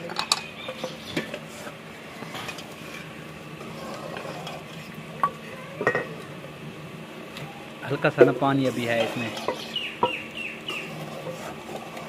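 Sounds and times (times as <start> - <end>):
ladle stirring in metal pot: 0.0 - 6.1, 8.1 - 12.0.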